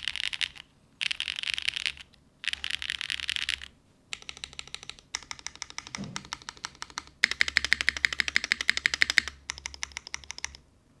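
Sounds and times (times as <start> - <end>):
mechanical keyboard typing: 0.0 - 10.6.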